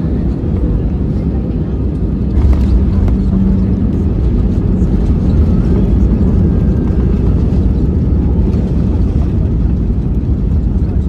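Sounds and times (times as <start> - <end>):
airliner rumble: 0.0 - 11.0.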